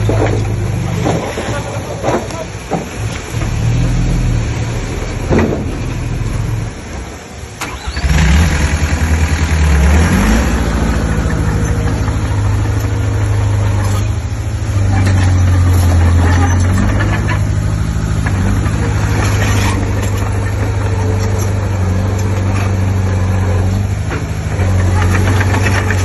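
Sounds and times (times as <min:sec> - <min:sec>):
heavy machine diesel engine: 0:00.0 - 0:26.0.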